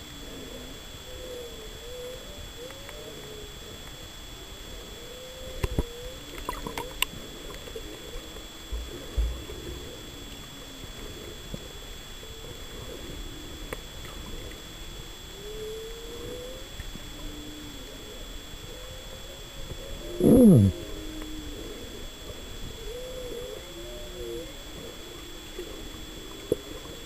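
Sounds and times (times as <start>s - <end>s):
steady underwater hiss: 0.0s - 27.0s
whale song underwater: 0.0s - 27.0s.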